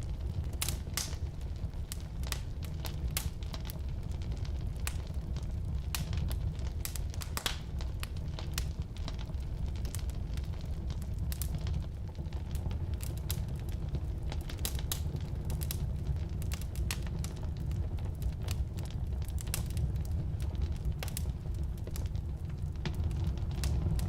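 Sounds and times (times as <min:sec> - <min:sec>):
fire rumbling: 0:00.0 - 0:24.0
firewood crackling and popping: 0:00.0 - 0:24.0.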